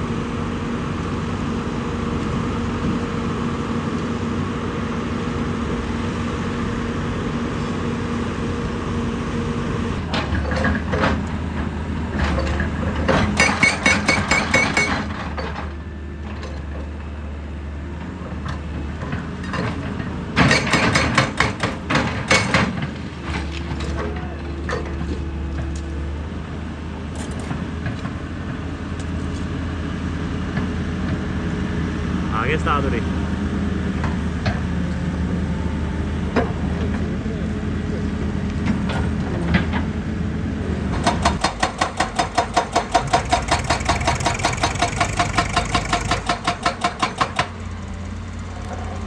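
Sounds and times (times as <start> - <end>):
diesel excavator running: 0.0 - 49.0.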